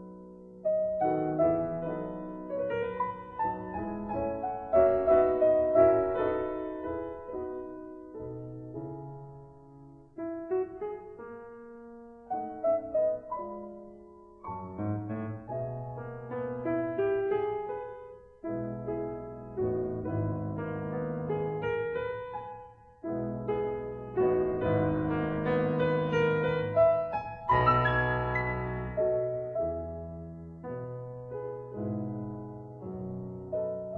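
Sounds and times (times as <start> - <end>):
piano music: 0.0 - 33.9.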